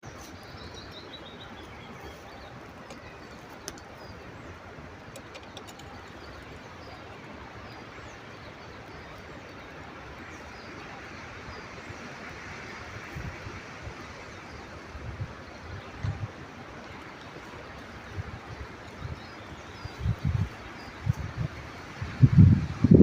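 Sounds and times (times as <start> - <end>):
small birds chirping: 0.0 - 22.8
outdoor background hiss: 0.0 - 23.0.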